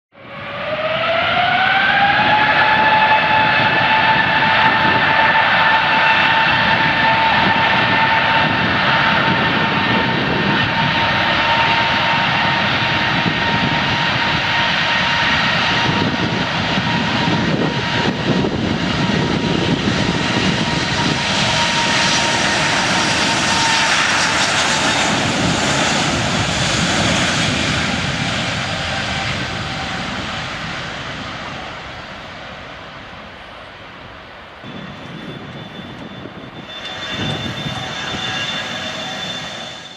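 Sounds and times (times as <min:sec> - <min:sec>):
airplane engine whine: 0:00.1 - 0:39.9.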